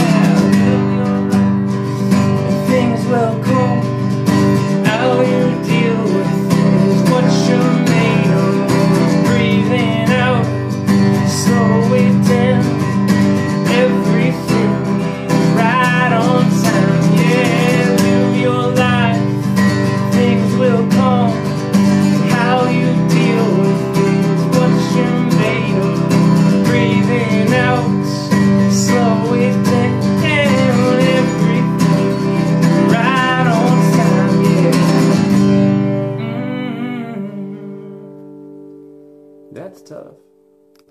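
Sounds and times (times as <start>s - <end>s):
man singing: 0.0s - 38.2s
acoustic guitar strumming: 0.0s - 40.9s.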